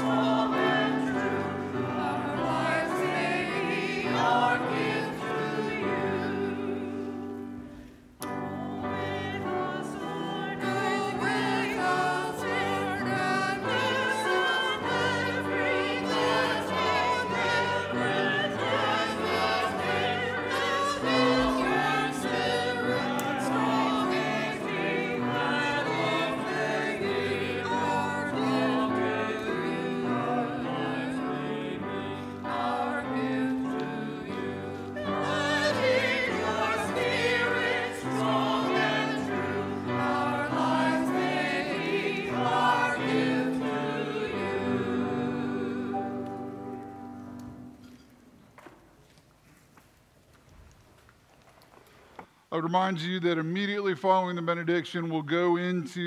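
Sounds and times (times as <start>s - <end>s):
choir singing a hymn: 0.0s - 47.8s
piano accompaniment: 0.0s - 47.9s.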